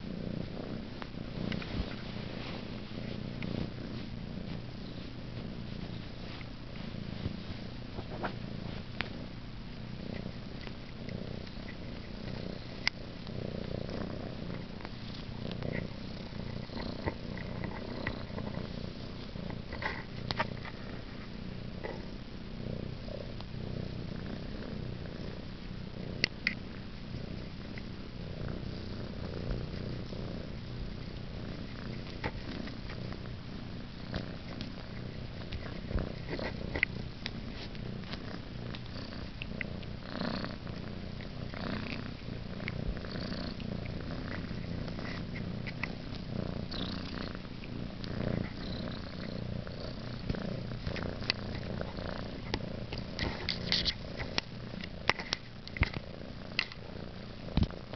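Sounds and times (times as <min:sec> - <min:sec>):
kitten purring: 0:00.0 - 0:57.9
small clicks and rustles: 0:00.9 - 0:22.0, 0:26.2 - 0:57.9.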